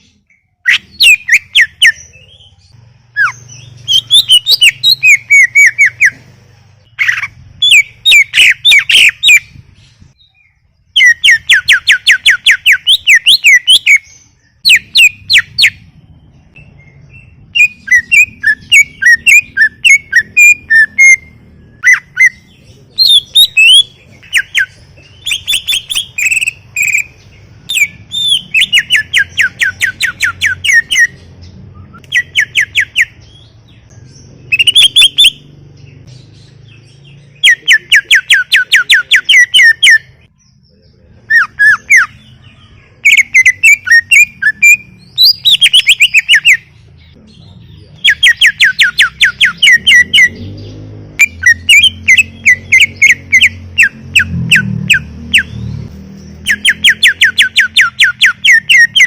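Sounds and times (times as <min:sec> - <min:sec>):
bird chirping and trilling: 0:00.0 - 0:59.0.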